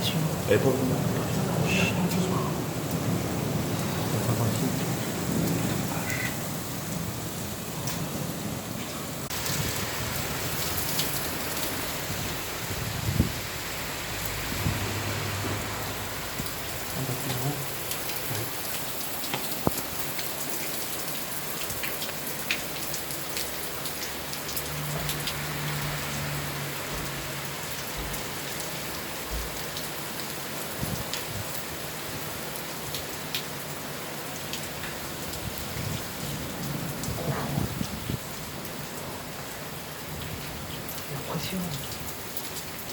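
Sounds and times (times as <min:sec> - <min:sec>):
rain hissing: 0:00.0 - 0:42.9
raindrops ticking on surfaces: 0:00.0 - 0:42.9.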